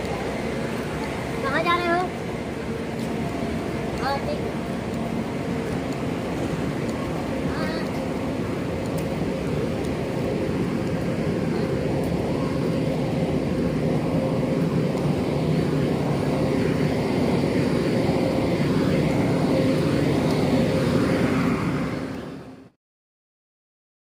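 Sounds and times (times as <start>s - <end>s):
train wheels rumbling on rail: 0.0s - 22.6s.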